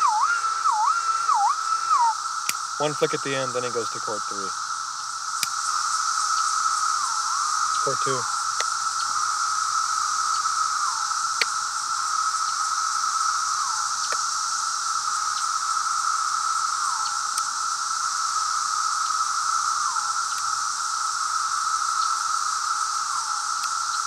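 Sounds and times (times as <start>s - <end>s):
cicada call with falling slur: 0.0s - 24.0s
cicada chorus: 0.0s - 24.0s.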